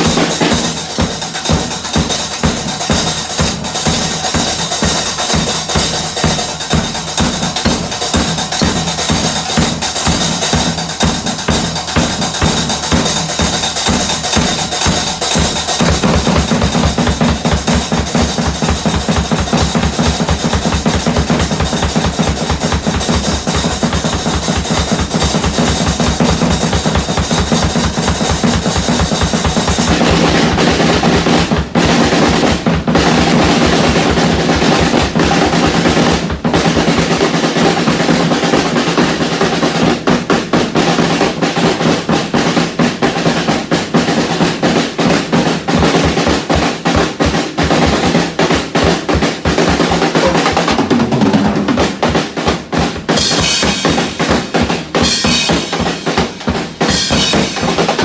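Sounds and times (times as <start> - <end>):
fast drumming with sticks: 0.0 - 58.0.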